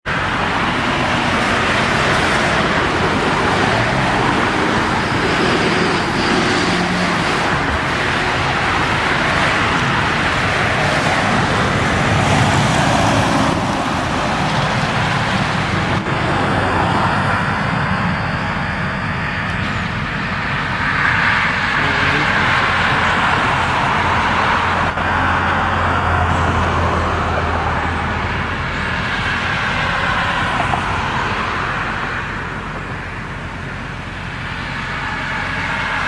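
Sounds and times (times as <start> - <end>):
vehicles driving past: 0.0 - 36.0.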